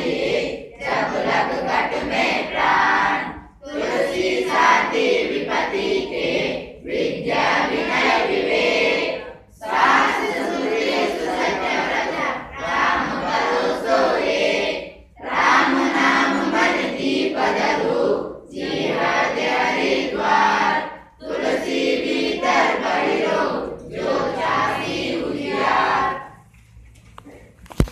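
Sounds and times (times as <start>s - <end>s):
students reciting in unison: 0.0s - 26.8s.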